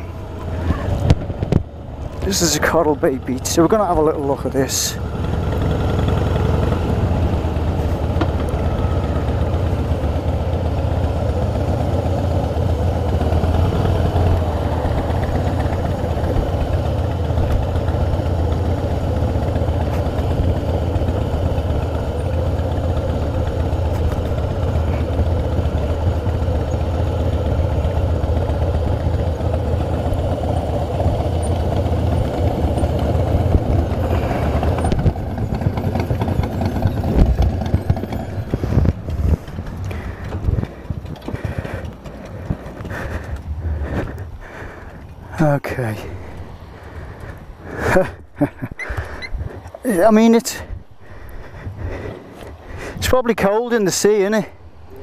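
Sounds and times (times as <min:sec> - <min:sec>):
motorcycle engine running at low revs: 0:00.0 - 0:44.4.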